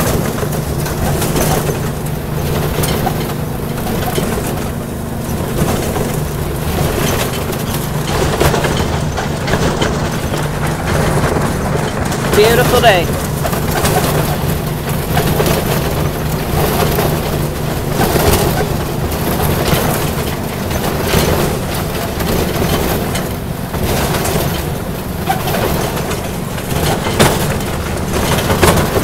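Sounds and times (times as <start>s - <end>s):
knocks and rattles: 0.0s - 29.0s
small locomotive engine hum: 0.0s - 29.0s.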